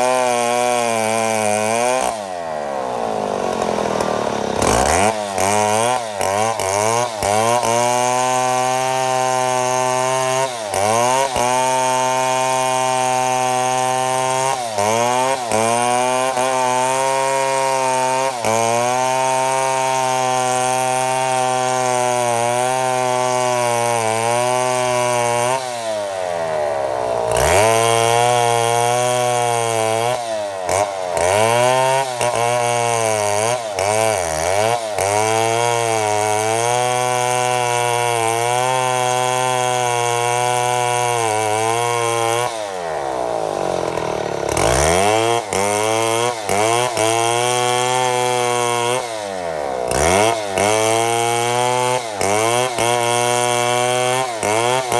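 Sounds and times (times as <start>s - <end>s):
chainsaw cutting through log: 0.0s - 54.9s.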